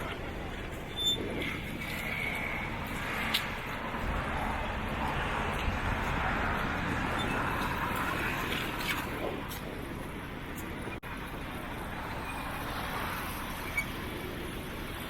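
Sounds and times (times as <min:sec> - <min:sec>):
bicycle riding rumble: 0:00.0 - 0:15.0
wind on microphone: 0:00.0 - 0:15.0.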